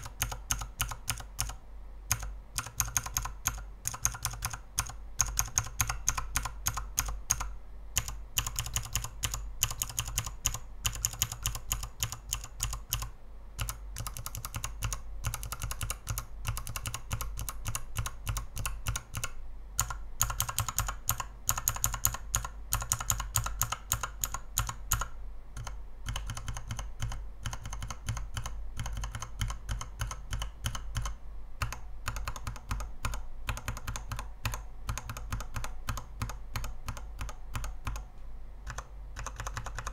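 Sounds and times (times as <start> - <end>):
clicky keyboard keystrokes: 0.0 - 39.9.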